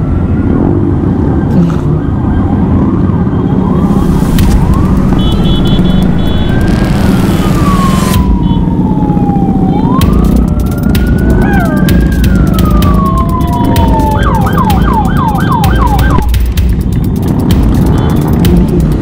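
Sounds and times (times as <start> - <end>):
police siren wailing: 0.0 - 16.4
motorcycle engines running: 2.2 - 19.0.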